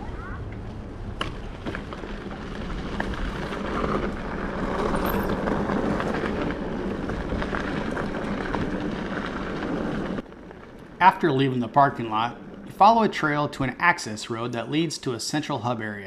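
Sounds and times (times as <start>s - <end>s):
bike tyres on gravel: 0.0s - 16.0s.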